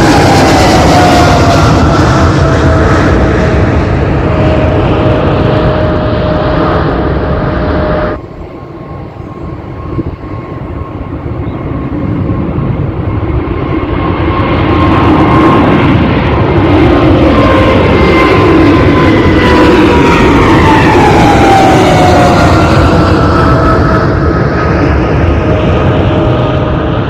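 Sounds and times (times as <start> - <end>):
jet engine whine: 0.0 - 27.0
jet engines roaring: 0.0 - 27.0.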